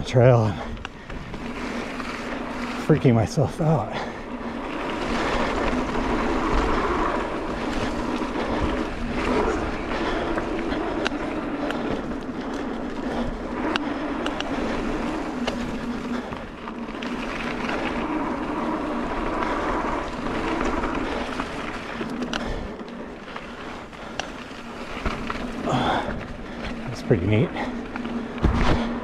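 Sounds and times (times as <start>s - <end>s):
bike rattling: 0.0s - 29.0s
tyre and wind rush: 0.0s - 29.0s
wheels knocking over roots: 0.0s - 29.0s.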